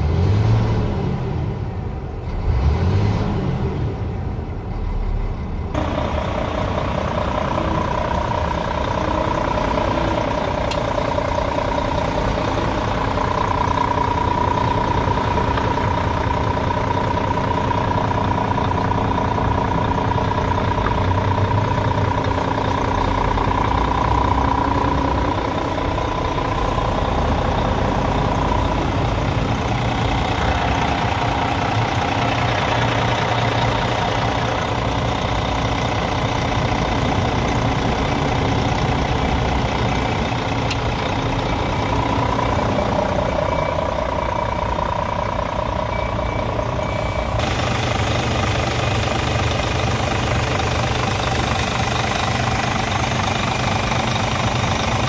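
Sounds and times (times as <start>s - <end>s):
faint engine whine: 3.6s - 55.0s
diesel truck engine idling: 4.0s - 55.0s.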